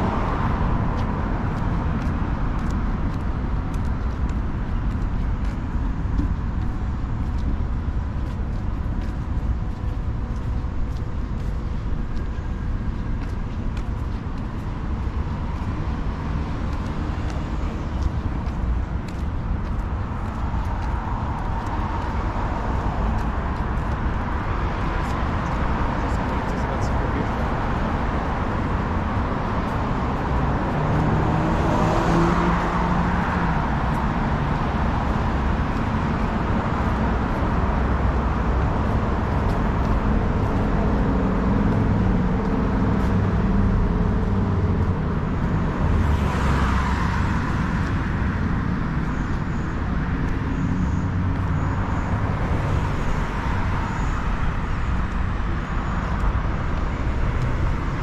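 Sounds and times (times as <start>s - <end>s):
road traffic noise: 0.0s - 58.0s
vehicles passing: 0.0s - 58.0s.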